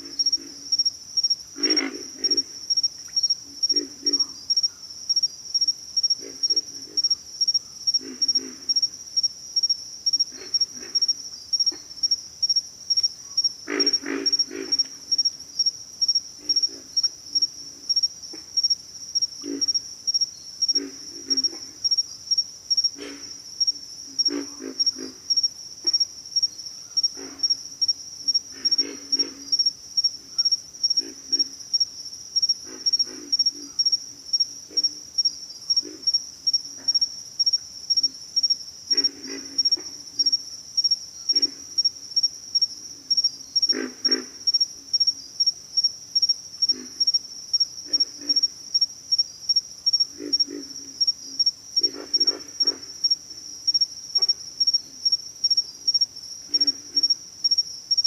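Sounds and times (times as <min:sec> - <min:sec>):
frogs grunting: 0:00.0 - 0:09.0, 0:09.6 - 0:48.9, 0:49.8 - 0:57.6
pulsing insect call: 0:00.0 - 0:58.0.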